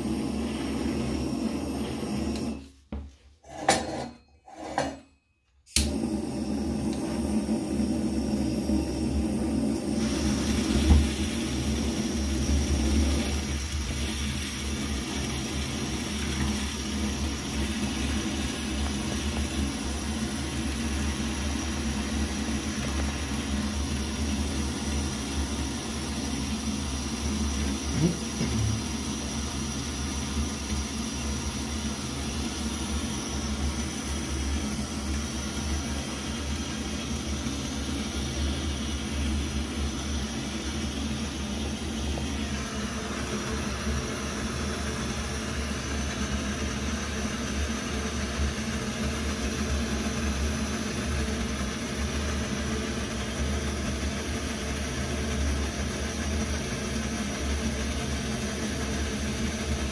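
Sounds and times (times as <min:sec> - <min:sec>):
camp stove burner burning: 0:00.0 - 0:02.7, 0:05.8 - 0:59.9.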